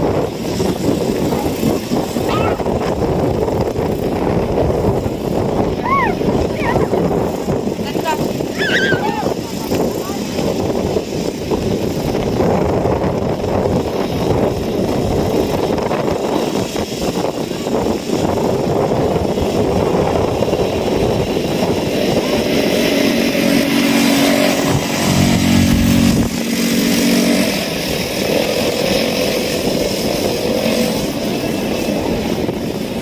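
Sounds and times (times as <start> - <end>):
atv engine running: 0.0 - 33.0
steady rushing noise: 0.0 - 33.0.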